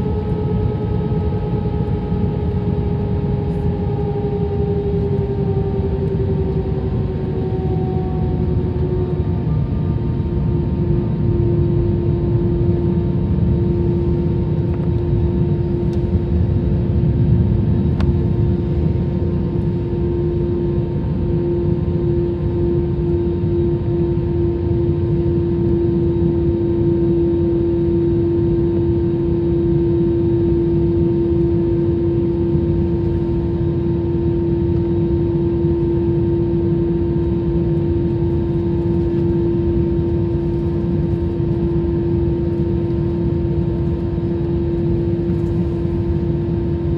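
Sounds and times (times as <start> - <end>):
strong steady hum: 0.0 - 46.9.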